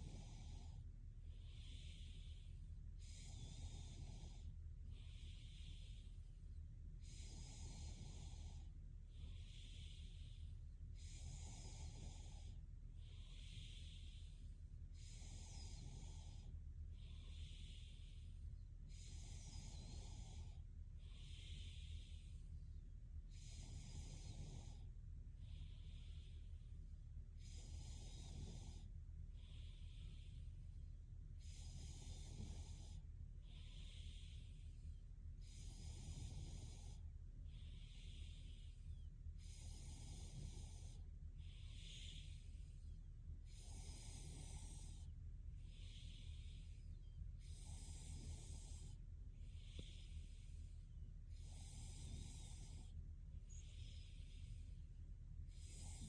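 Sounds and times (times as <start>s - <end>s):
girl breathing softly: 0.0s - 56.0s
steady low hum: 0.0s - 56.0s.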